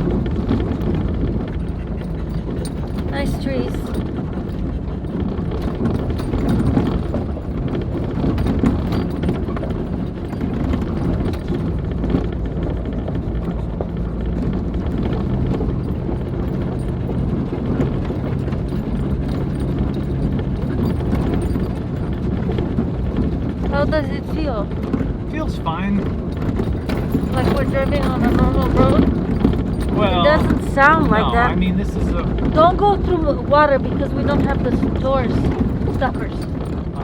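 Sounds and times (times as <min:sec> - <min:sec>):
body and suspension rattling: 0:00.0 - 0:37.0
vehicle engine and tyre noise: 0:00.0 - 0:37.0.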